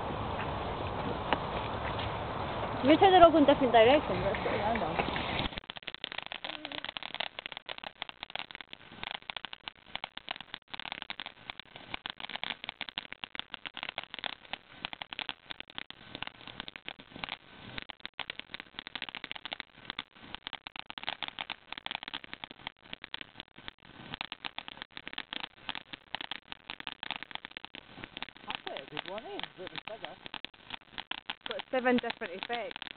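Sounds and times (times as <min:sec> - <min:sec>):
firework crackling: 0:00.0 - 0:32.9.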